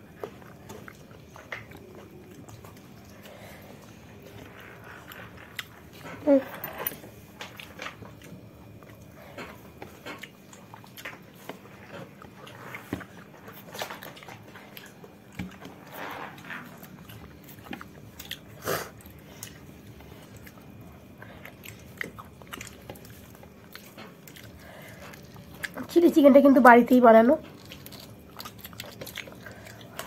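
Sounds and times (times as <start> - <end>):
person chewing food: 0.0 - 25.9, 27.4 - 30.0.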